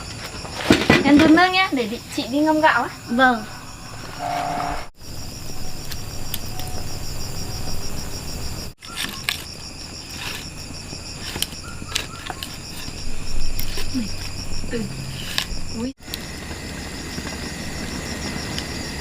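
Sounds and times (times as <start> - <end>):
insects chirping trill: 0.0 - 19.0.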